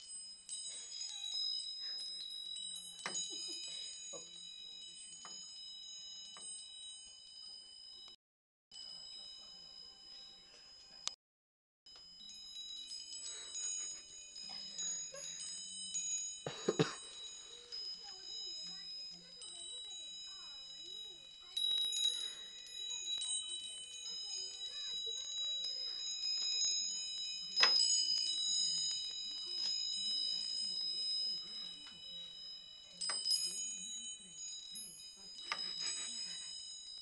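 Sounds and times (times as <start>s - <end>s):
wind chime tinkling: 0.0s - 11.2s, 11.9s - 37.0s.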